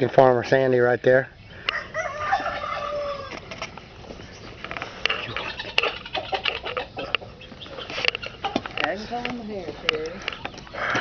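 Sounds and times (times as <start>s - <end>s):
chickens clucking and calling: 1.3s - 11.0s.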